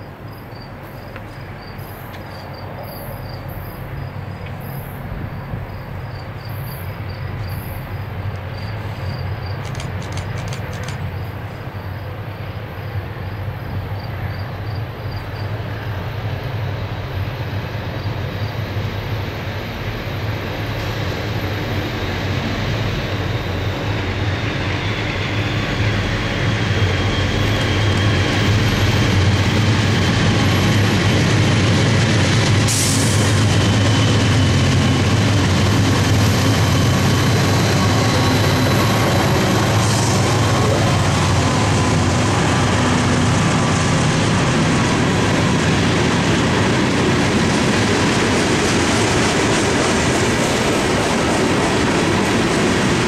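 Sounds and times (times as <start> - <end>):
crickets chirping: 0.0 - 31.4, 33.6 - 48.6
diesel locomotive hum: 0.0 - 53.0
train wheels on rails: 0.0 - 53.0.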